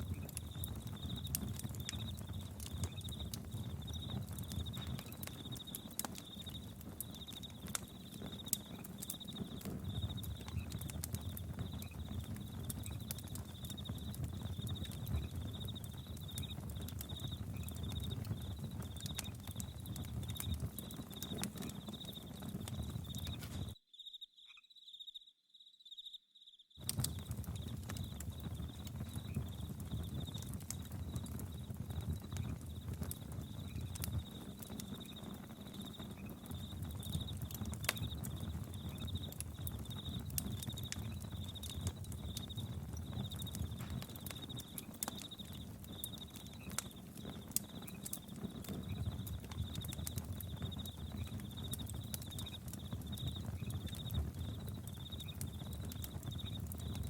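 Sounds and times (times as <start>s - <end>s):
campfire crackling and popping: 0.0s - 23.8s, 26.8s - 57.0s
crickets chirping: 0.0s - 57.0s.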